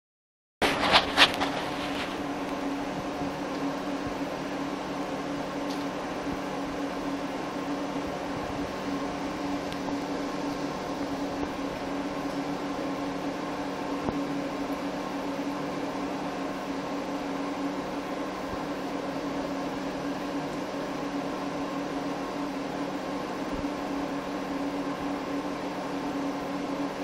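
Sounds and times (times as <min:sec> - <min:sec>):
machine hum: 0:00.6 - 0:27.0.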